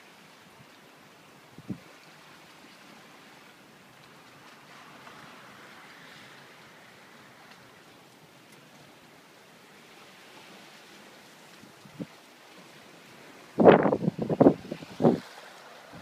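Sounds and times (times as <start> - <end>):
surf washing on shore: 0.0 - 16.0.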